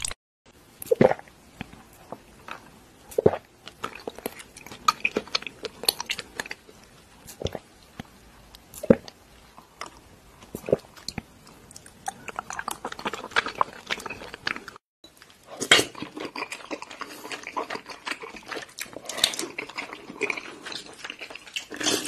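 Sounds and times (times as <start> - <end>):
chewing tapioca pearls: 0.8 - 22.0.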